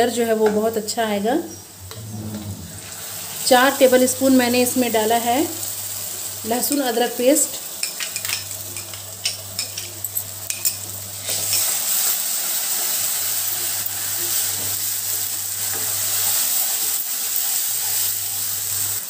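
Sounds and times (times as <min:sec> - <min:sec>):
paste sizzling in oil: 0:02.8 - 0:19.0.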